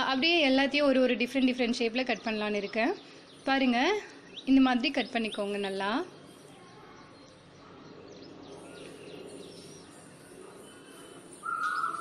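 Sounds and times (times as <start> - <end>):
faint background noise: 0.0 - 12.0
faint bird chirps: 2.3 - 12.0.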